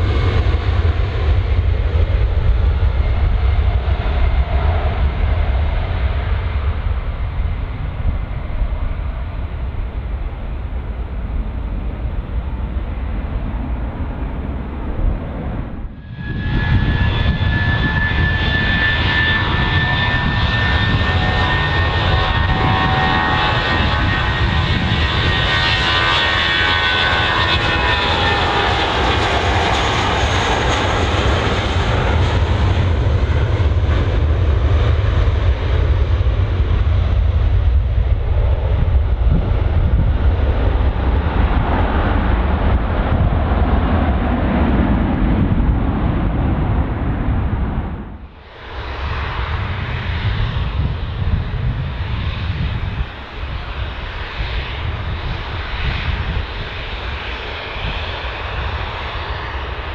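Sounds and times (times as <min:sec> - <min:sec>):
jet engine whine: 0:00.0 - 0:59.9
jet engines rumbling: 0:00.0 - 0:59.9.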